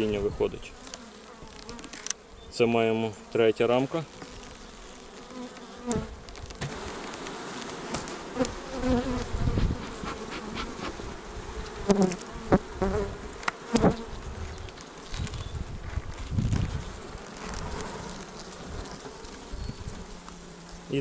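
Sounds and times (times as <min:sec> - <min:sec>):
bees buzzing: 0:00.0 - 0:21.0
bees flying past: 0:03.0 - 0:21.0.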